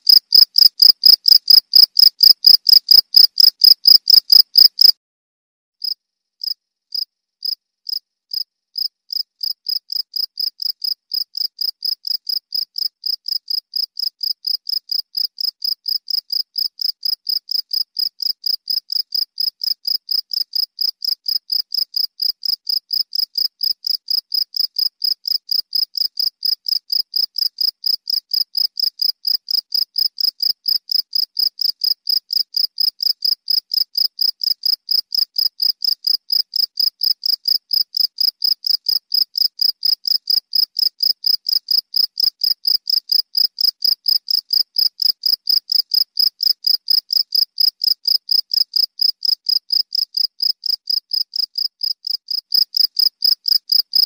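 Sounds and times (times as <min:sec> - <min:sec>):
cricket chirping: 0:00.0 - 0:04.9, 0:05.8 - 0:54.0.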